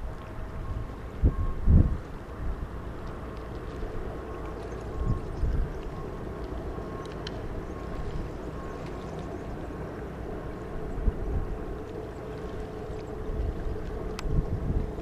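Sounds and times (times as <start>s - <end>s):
distant engine rumble: 0.0s - 15.0s
faint steady hum: 0.0s - 15.0s
wind buffeting microphone: 0.0s - 15.0s.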